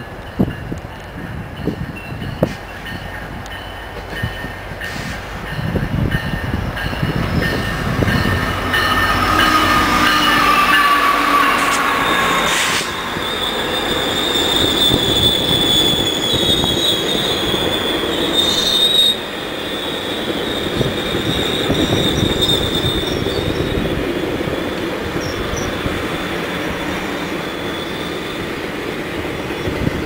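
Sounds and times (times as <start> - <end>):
train wheels rumbling on rails: 0.0 - 30.0
train wheel squeal: 1.2 - 30.0.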